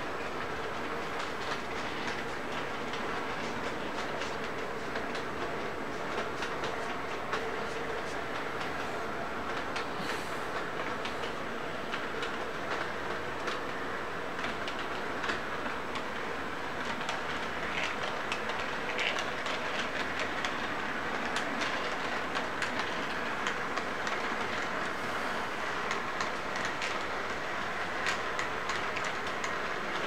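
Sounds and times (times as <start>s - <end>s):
model train wheels rumbling: 0.0s - 30.0s
wheels clicking over rail joints: 0.0s - 30.0s.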